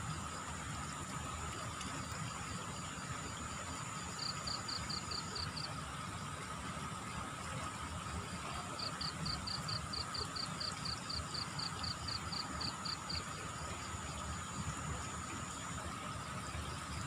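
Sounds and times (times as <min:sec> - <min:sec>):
fast-flowing floodwater: 0:00.0 - 0:17.0.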